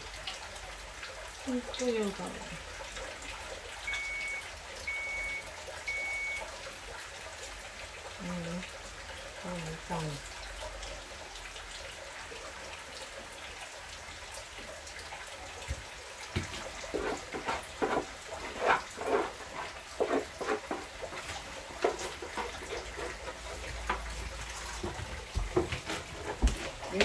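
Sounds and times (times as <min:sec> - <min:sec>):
water running from a tap: 0:00.0 - 0:27.0.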